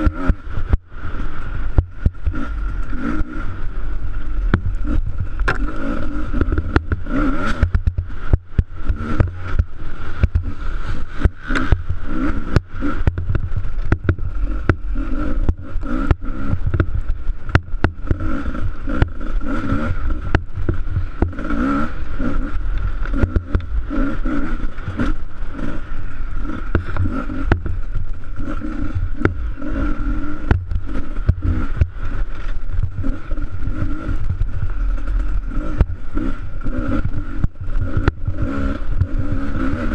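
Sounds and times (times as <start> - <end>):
knocks and rattles over bumps: 0.0 - 39.9
motorcycle engine revving: 0.0 - 39.9.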